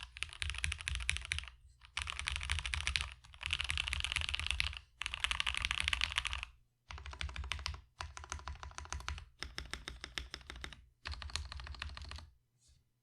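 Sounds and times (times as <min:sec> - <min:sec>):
clacky keyboard typing: 0:00.0 - 0:12.3.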